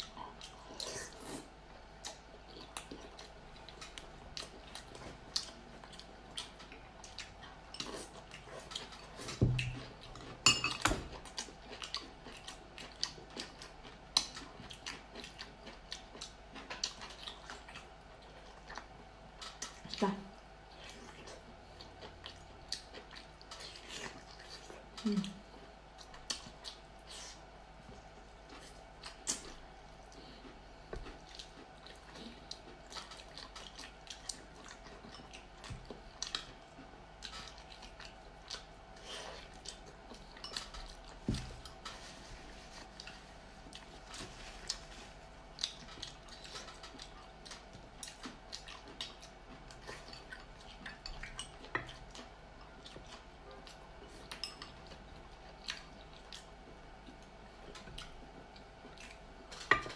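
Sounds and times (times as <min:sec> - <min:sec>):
faint steady hum: 0:00.0 - 0:59.9
people chewing: 0:00.0 - 0:59.9.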